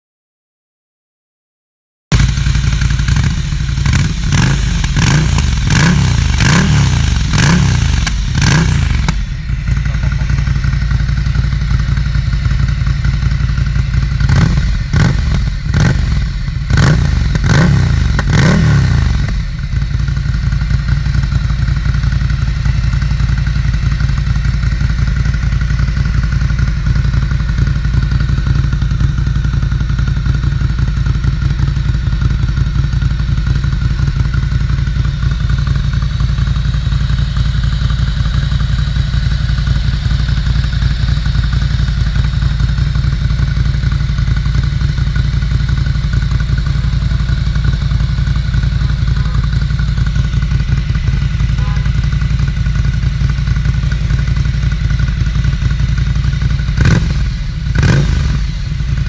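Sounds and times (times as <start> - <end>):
motorcycle engine revving and idling: 2.1 - 59.0.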